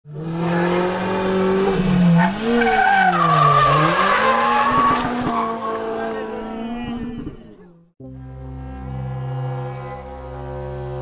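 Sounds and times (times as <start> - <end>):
rally car engine revving: 0.1 - 11.0.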